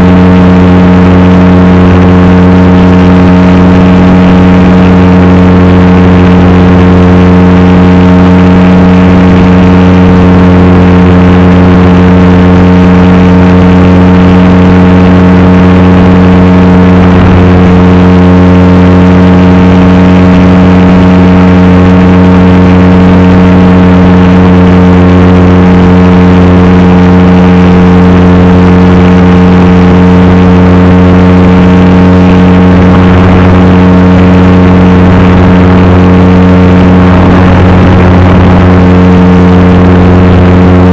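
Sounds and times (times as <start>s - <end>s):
model plane motor droning: 0.0s - 40.9s.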